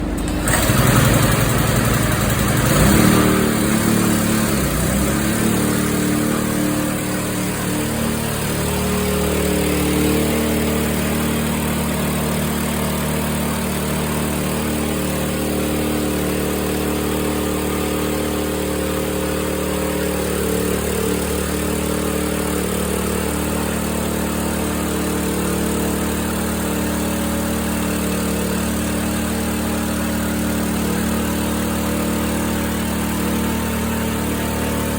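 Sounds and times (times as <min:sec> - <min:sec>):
rice milling machine droning: 0:00.0 - 0:34.9.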